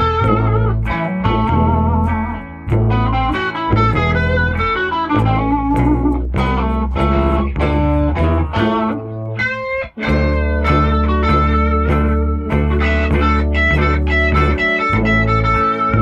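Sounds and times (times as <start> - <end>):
bass line: 0.0 - 16.0
electric guitar melody: 0.0 - 16.0.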